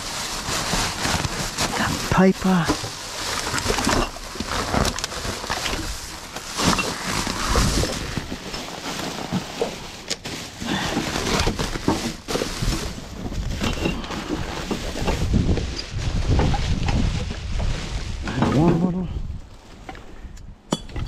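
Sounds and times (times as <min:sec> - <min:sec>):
rustling and knocking rubbish: 0:00.0 - 0:19.0.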